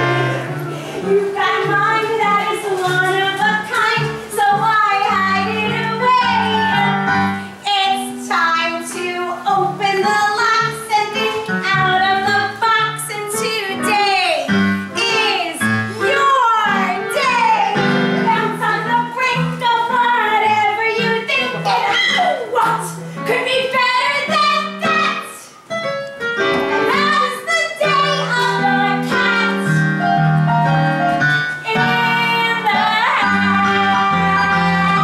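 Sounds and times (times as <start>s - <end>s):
keyboard accompaniment: 0.0s - 35.0s
woman singing: 1.0s - 25.6s, 26.8s - 30.0s, 31.6s - 35.0s.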